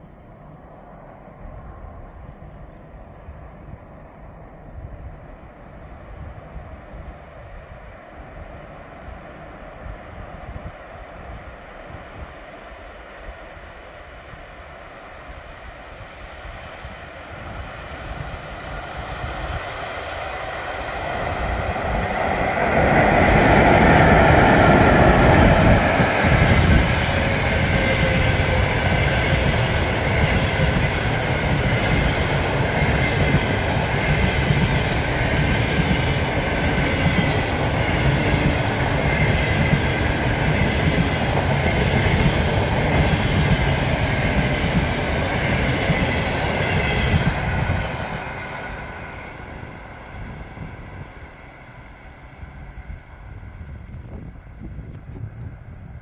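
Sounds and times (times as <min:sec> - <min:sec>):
electric locomotive passing: 0:00.0 - 0:56.0
train wheels rumbling on rail: 0:04.6 - 0:56.0.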